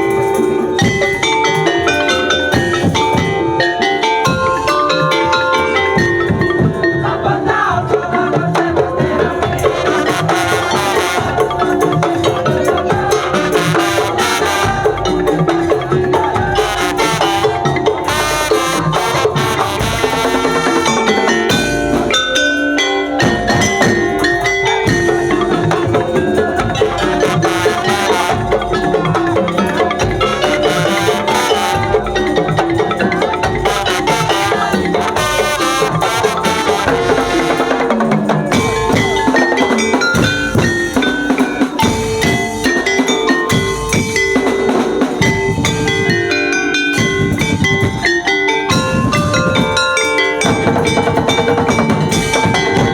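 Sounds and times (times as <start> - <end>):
drums: 0.0 - 52.9
mallet percussion melody: 0.0 - 52.9.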